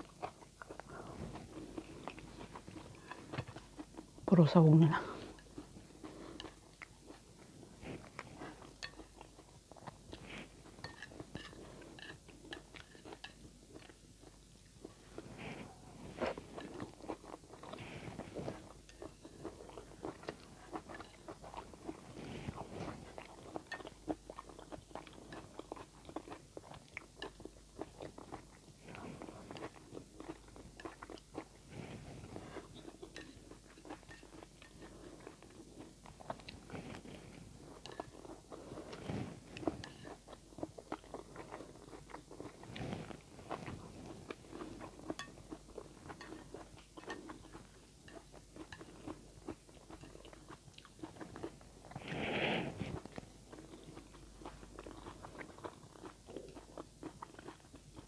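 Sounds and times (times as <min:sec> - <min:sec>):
person chewing noodles: 0:00.0 - 0:58.0.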